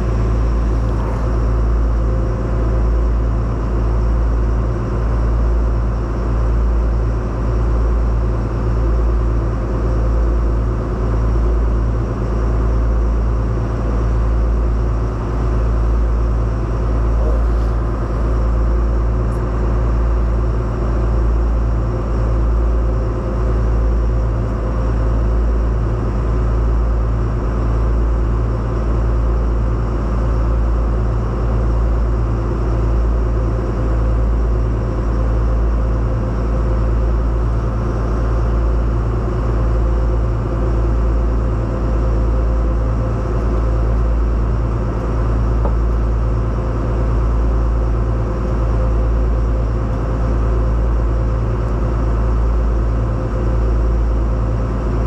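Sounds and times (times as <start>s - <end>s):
low engine drone: 0.0s - 55.0s.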